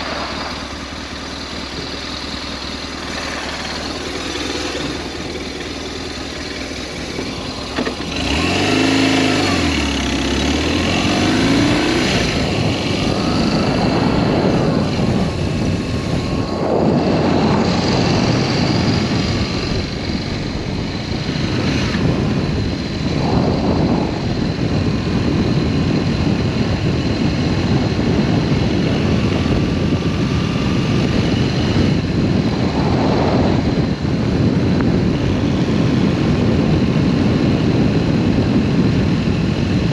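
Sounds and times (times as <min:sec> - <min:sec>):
motorcycle engine pulling away: 0:00.0 - 0:39.9
wind and road noise: 0:00.0 - 0:39.9.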